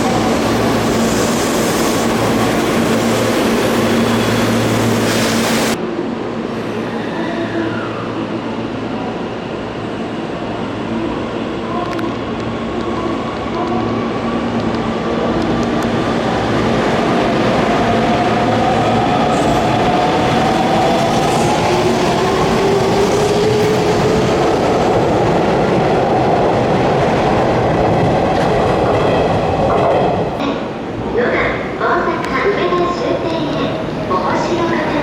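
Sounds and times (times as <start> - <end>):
station background noise: 0.0 - 35.0.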